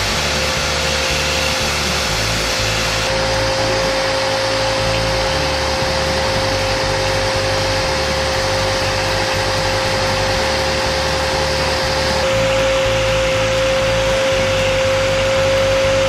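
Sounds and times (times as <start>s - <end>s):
hiss of buffing metal: 0.0s - 16.0s
polishing pad whining: 0.0s - 16.0s.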